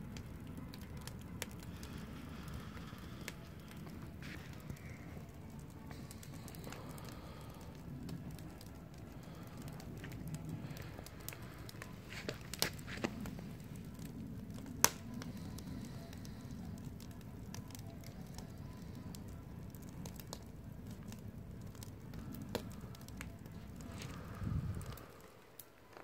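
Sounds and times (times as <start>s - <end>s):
fire crackles and pops: 0.0s - 26.0s
low rush of flames: 0.0s - 26.0s.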